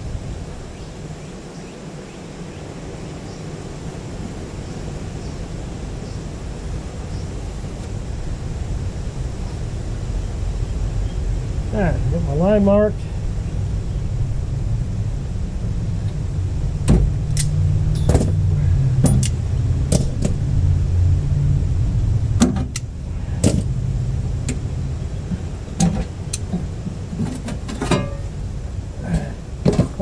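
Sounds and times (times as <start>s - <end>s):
low hum: 3.6s - 30.0s.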